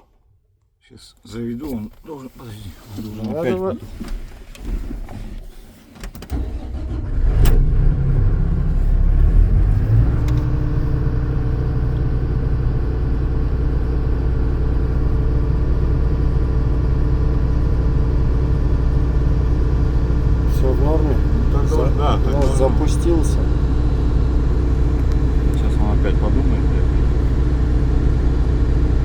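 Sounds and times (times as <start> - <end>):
diesel engine starting: 3.0 - 29.0.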